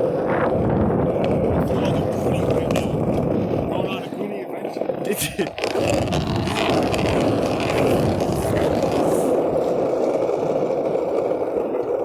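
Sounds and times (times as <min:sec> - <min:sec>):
wheels rolling over pavement: 0:00.0 - 0:12.0.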